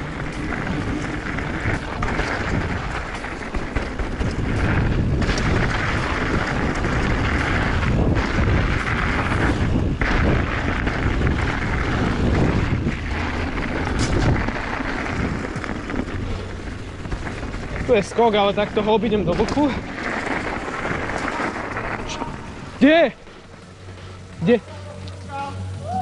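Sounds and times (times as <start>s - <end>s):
wind buffeting microphone: 0.0s - 24.4s
bike knocking and rattling: 0.0s - 26.0s
tyres rumbling on dirt: 0.0s - 26.0s.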